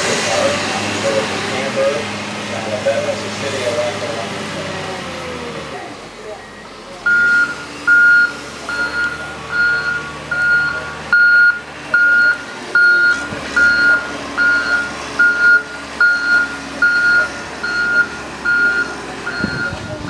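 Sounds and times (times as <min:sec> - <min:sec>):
truck reversing alarm beeping: 0:00.0 - 0:03.8, 0:06.2 - 0:20.0
truck engine running: 0:00.0 - 0:20.0.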